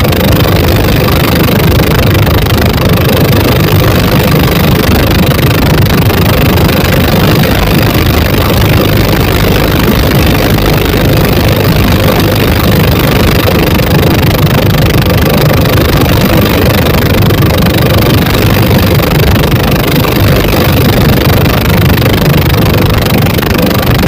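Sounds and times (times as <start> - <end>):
diesel boat engines running: 0.0 - 24.0.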